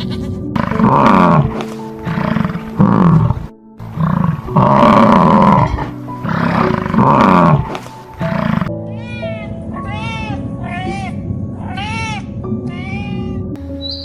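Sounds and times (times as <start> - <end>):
roaring animal calls: 0.0 - 13.6
background music: 0.0 - 14.0.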